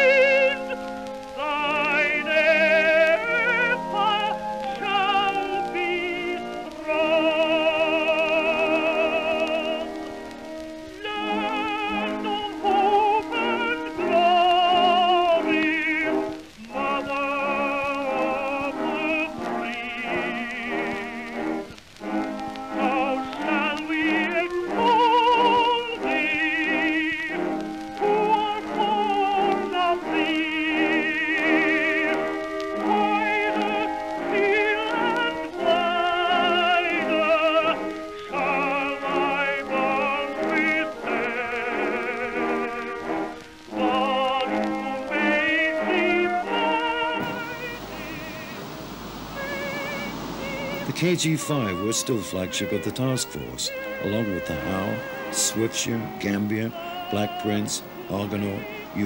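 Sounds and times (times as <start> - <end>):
operatic singer with vibrato: 0.0 - 10.2, 10.9 - 59.0
musical accompaniment: 0.0 - 59.0.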